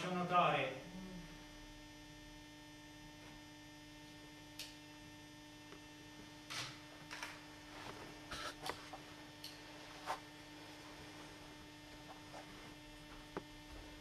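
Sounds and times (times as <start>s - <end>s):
low electrical mains hum: 0.0s - 14.0s.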